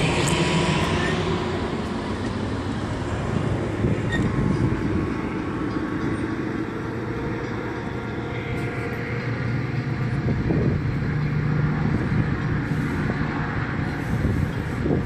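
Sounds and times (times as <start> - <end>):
train diesel rumble: 0.0 - 15.0.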